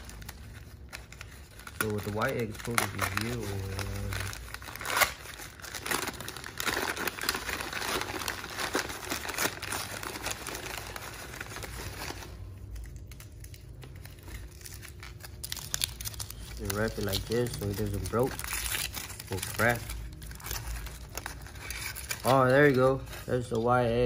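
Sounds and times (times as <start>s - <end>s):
foil crinkling: 0.0s - 24.0s
paper crinkling and tearing: 0.0s - 24.0s.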